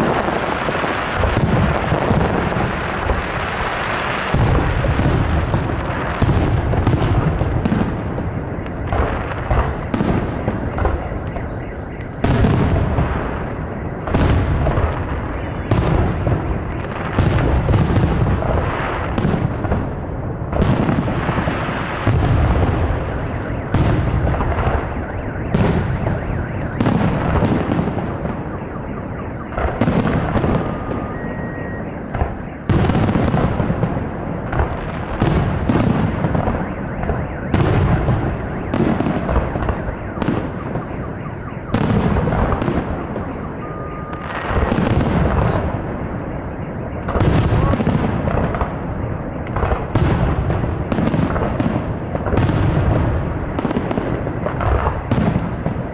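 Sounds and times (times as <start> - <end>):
firework shells booming: 0.0 - 55.9.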